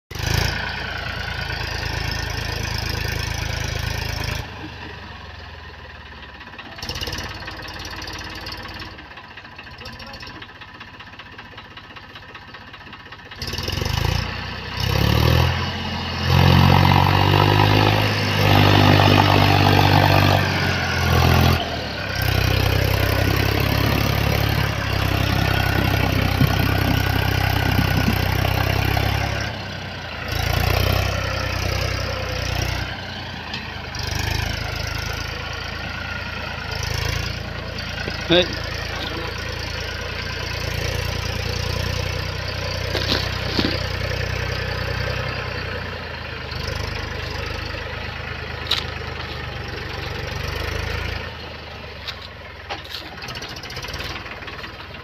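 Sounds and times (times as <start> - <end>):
tractor diesel engine running: 0.1 - 55.0.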